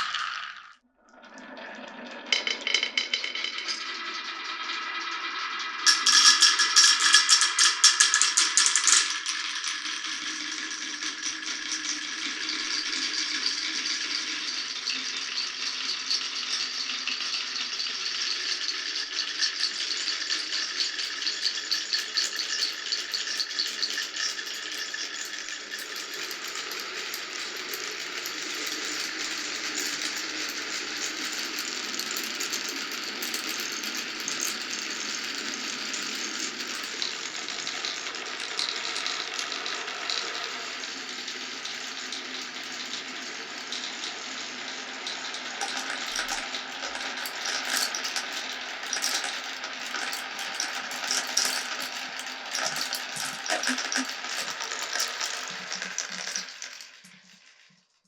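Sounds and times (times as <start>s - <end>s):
marbles rattling down wooden run: 0.0s - 57.7s.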